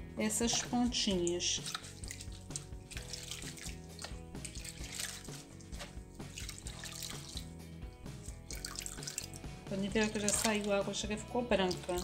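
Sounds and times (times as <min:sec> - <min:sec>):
background music: 0:00.0 - 0:12.0
water sloshing and dripping: 0:00.4 - 0:12.0.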